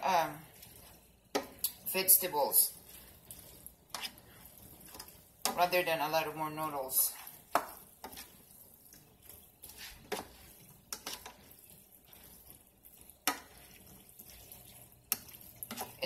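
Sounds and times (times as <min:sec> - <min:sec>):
faint sizzle: 0:00.0 - 0:16.0
spatula scraping and knocking pan: 0:00.5 - 0:16.0.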